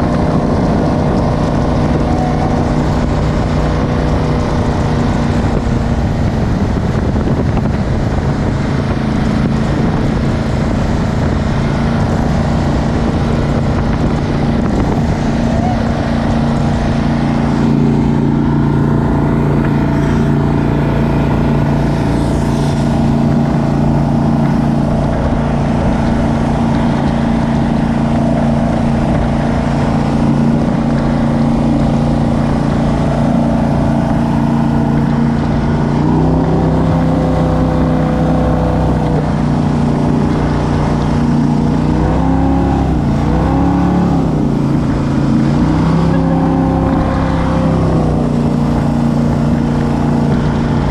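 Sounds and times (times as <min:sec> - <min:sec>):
jet boat engine running: 0:00.0 - 0:50.9.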